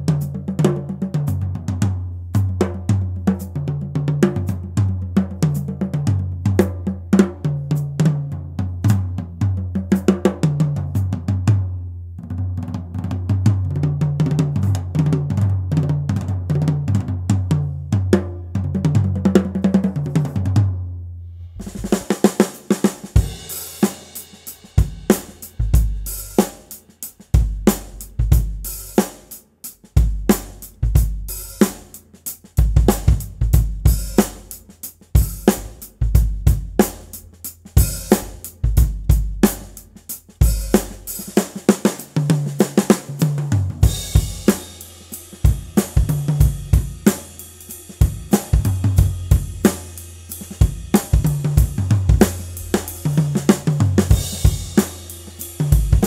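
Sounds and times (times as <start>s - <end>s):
drum kit groove: 0.0s - 20.8s, 21.5s - 56.0s.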